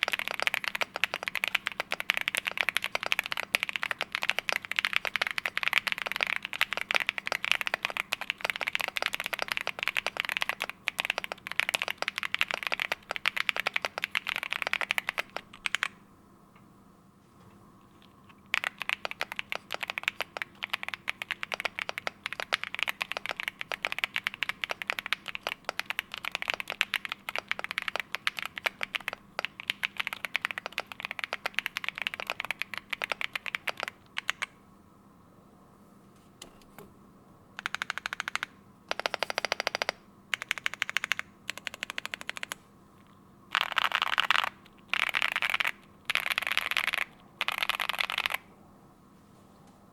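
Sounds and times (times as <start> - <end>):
mechanical keyboard typing: 0.0 - 16.0, 18.0 - 34.6, 37.6 - 42.6, 43.5 - 48.4.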